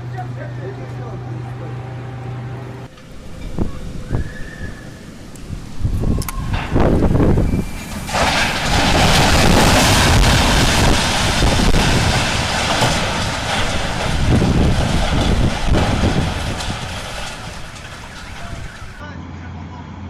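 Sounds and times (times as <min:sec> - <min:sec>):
wind buffeting microphone: 0:02.8 - 0:19.0.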